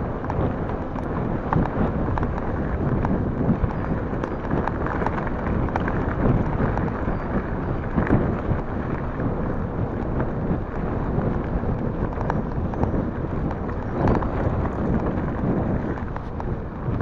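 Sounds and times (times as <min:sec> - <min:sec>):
bike jolting over bumps: 0:00.0 - 0:17.0
tyres rumbling on dirt trail: 0:00.0 - 0:17.0
wind rushing over microphone: 0:00.0 - 0:17.0.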